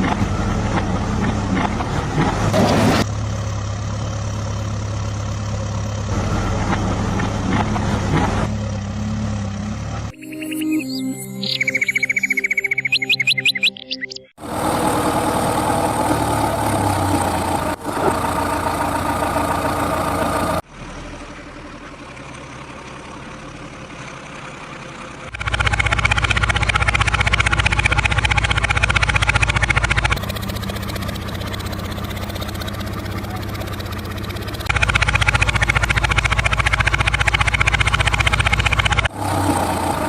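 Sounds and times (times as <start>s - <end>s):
heavy diesel engine running: 0.0s - 10.2s, 14.4s - 40.0s.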